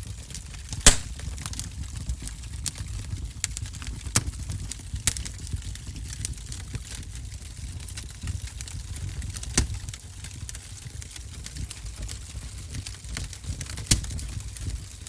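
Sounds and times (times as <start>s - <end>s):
wood fire crackling: 0.2s - 15.0s.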